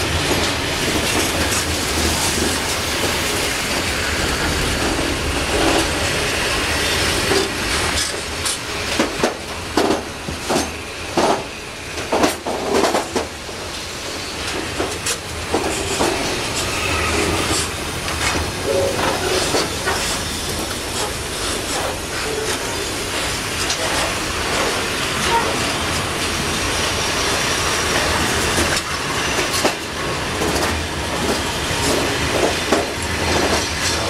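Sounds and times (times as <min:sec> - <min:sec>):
clacks over rail joints: 0:00.0 - 0:06.3, 0:07.1 - 0:13.8, 0:14.4 - 0:26.6, 0:27.8 - 0:34.0
freight wagon wheels rumbling on rails: 0:00.0 - 0:34.0.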